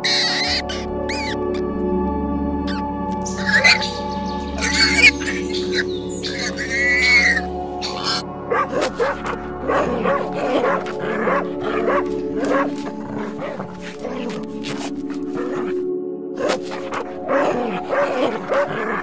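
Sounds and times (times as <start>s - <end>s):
puppy yelping and whining: 0.0s - 1.6s, 2.7s - 15.7s, 16.4s - 19.0s
background music held chord: 0.0s - 19.0s.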